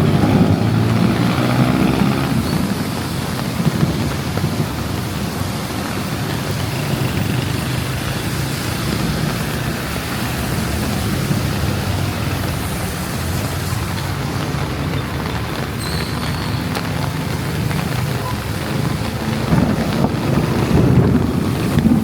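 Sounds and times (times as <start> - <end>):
rain hiss: 0.0 - 22.0
vehicle engines on wet roads: 0.0 - 22.0.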